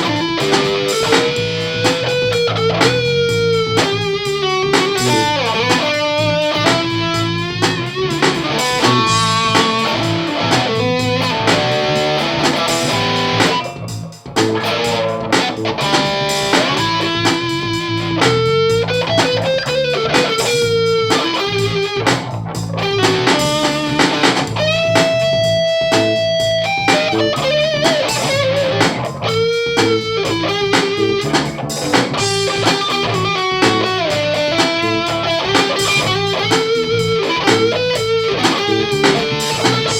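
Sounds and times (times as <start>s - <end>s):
distorted electric guitar lead: 0.0s - 39.9s.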